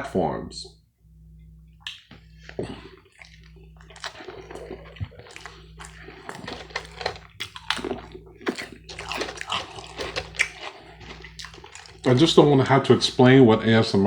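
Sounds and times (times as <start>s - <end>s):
steady low hum: 0.0s - 14.0s
wet chewing and mouth smacks: 1.8s - 13.2s.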